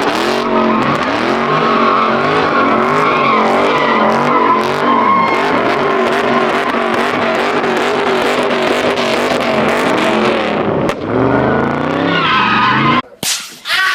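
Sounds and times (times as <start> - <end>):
car engine revving hard: 0.0 - 13.0
tires squealing: 0.0 - 13.0.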